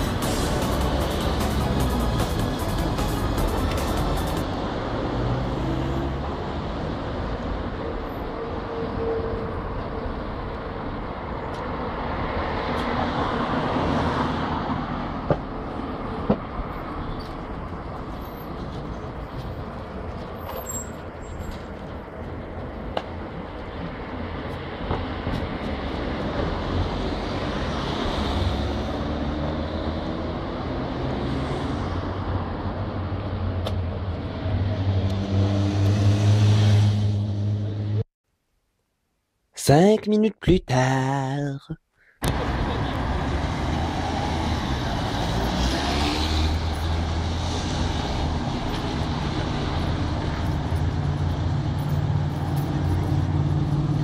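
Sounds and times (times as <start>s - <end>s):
passing road traffic: 0.0s - 38.1s, 41.6s - 54.0s.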